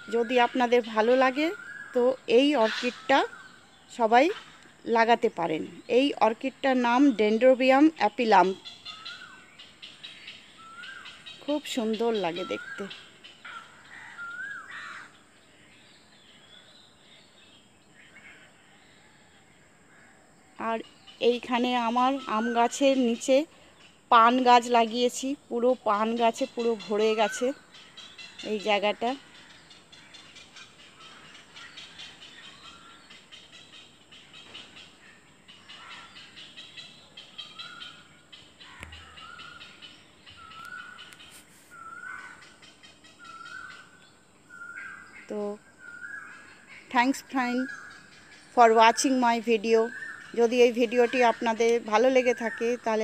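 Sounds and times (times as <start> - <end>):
faint bird chirping: 0.0 - 53.0.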